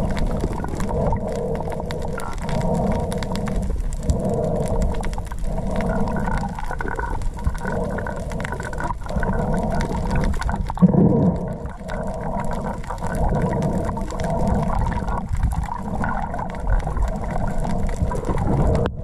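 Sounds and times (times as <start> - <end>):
faint clicks: 0.0 - 18.9
low moaning underwater hum: 0.0 - 19.0.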